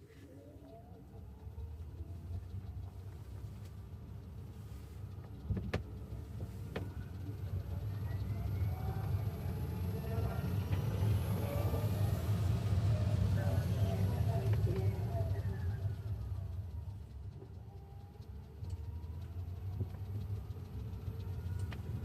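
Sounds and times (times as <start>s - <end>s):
car engine rumbling: 0.0s - 22.0s
faint rising whine: 0.0s - 22.0s.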